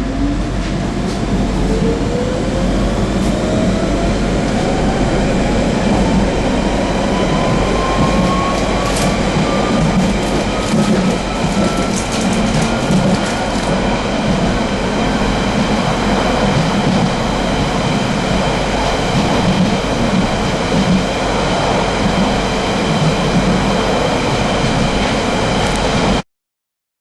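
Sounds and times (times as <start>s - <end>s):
train rumble: 0.0s - 26.2s.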